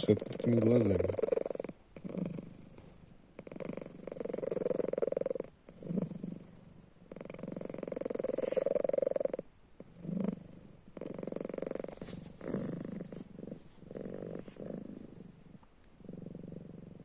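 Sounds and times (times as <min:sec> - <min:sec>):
cat snoring: 0:00.0 - 0:17.0.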